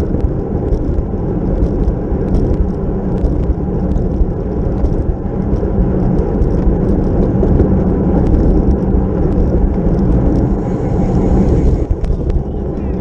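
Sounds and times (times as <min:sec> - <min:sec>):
bicycle tyre and road noise: 0:00.0 - 0:13.0
wind rushing over microphone: 0:00.0 - 0:13.0.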